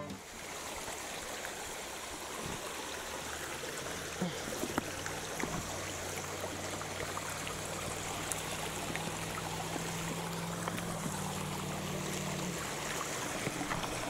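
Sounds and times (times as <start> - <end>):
creek water running over rocks: 0.0 - 14.0.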